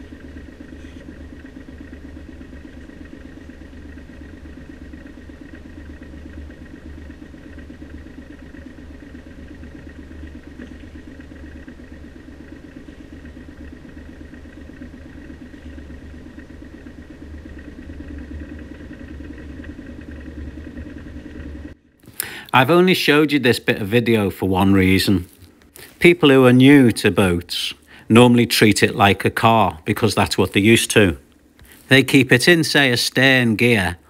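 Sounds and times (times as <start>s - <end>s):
diesel boat engine running: 0.0s - 34.0s.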